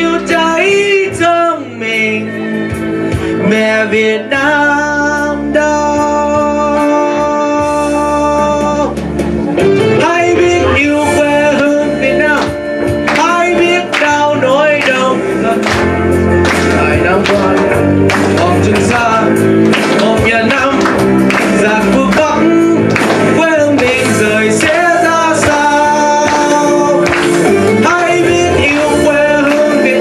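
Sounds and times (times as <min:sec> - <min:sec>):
boy singing into microphone: 0:00.0 - 0:02.5, 0:03.2 - 0:09.1, 0:09.8 - 0:15.9, 0:16.7 - 0:30.0
instrumental backing music: 0:00.0 - 0:30.0.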